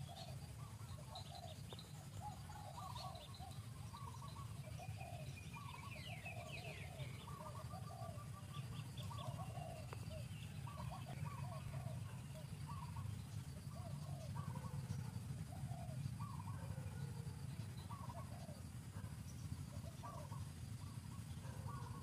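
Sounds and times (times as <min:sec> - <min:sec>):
birds calling: 0:00.0 - 0:22.0
steady low hum: 0:00.0 - 0:22.0.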